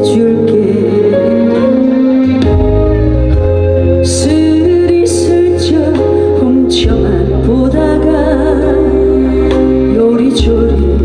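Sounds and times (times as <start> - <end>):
woman singing into microphone: 0.0 - 2.2, 4.0 - 11.0
instrumental accompaniment with bass: 0.0 - 11.0.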